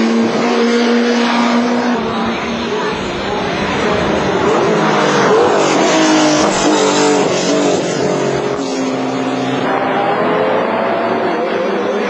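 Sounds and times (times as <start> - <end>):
racing car engines passing: 0.0 - 12.0.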